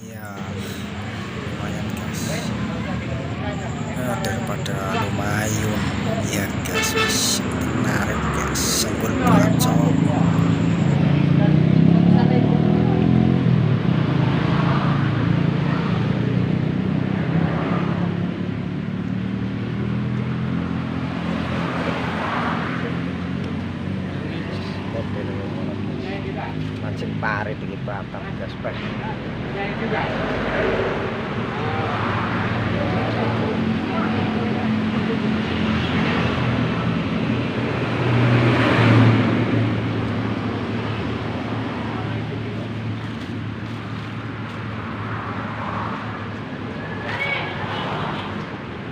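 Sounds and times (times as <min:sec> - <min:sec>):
passing traffic: 0:00.0 - 0:48.9.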